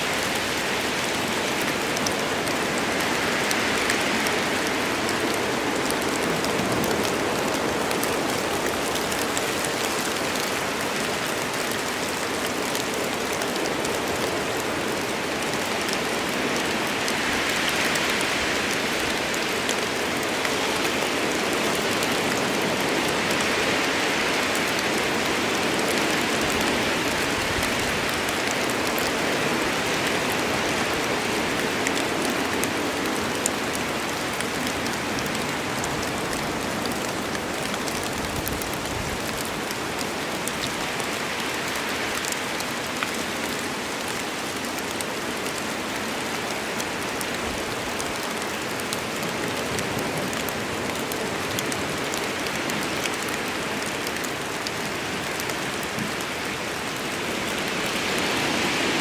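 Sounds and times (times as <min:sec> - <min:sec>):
rain falling: 0:00.0 - 0:59.0
raindrops pattering on leaves: 0:00.0 - 0:59.0.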